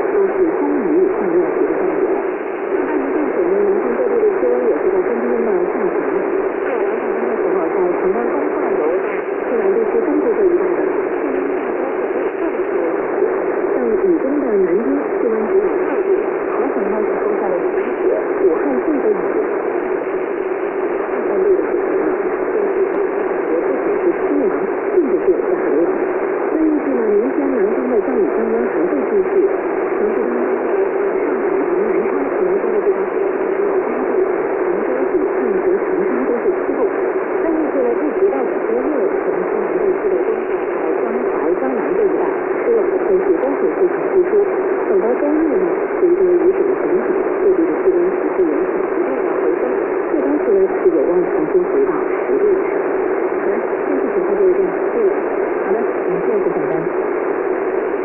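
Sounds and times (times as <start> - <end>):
faint wavering radio programme: 0.0 - 58.0
radio static hiss: 0.0 - 58.0
steady radio tone: 0.0 - 58.0.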